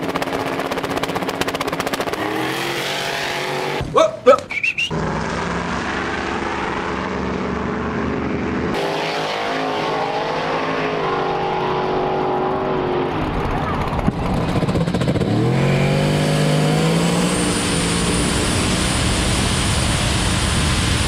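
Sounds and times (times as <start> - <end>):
drag racing engines at full throttle: 0.0 - 21.0.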